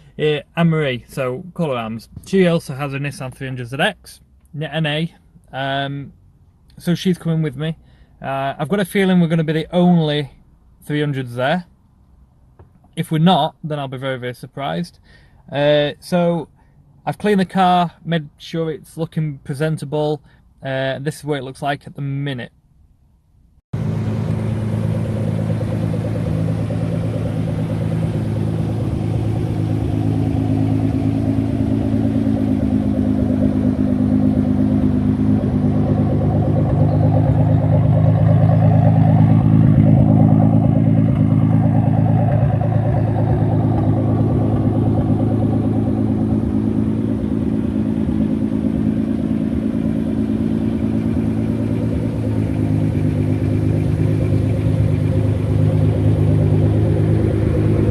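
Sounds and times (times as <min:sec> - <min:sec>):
car engine idling: 0:00.0 - 0:13.1, 0:22.5 - 0:57.9.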